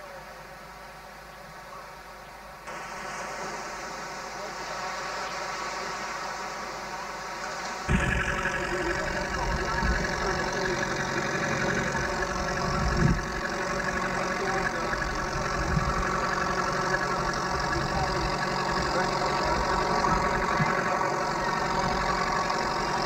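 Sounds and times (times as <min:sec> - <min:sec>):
boat engine running: 0:02.7 - 0:23.0.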